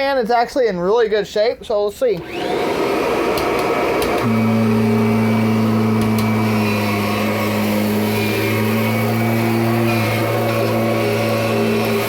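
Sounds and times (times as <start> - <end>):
upright vacuum cleaner running: 2.2 - 12.0.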